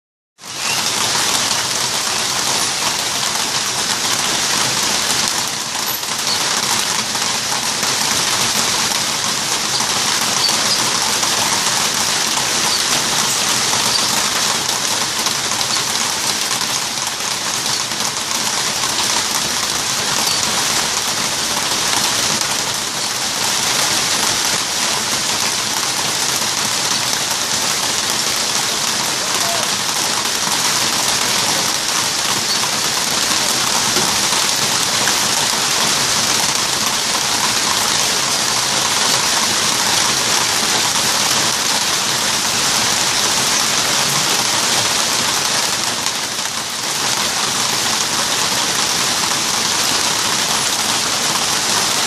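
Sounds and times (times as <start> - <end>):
rain on foliage: 0.4 - 52.0
rain on metal roof: 0.4 - 52.0.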